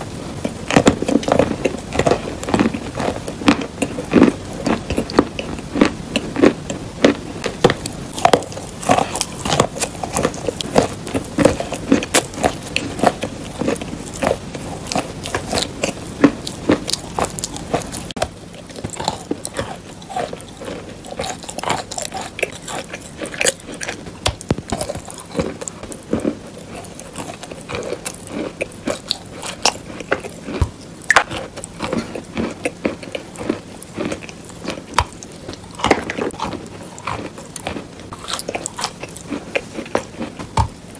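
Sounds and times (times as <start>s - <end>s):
chewing crunchy chalk: 0.4s - 40.9s.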